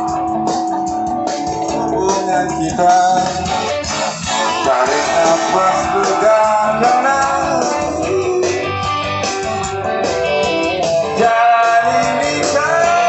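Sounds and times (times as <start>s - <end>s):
electric guitar lines: 0.0s - 13.0s
live rock band playing: 0.0s - 13.0s.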